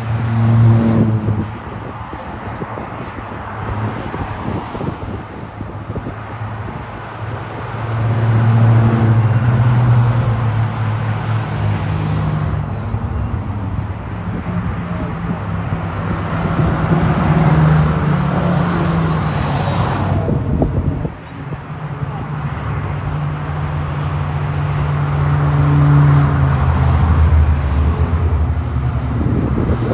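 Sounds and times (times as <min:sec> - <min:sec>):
racing car engines passing: 0:00.0 - 0:29.9.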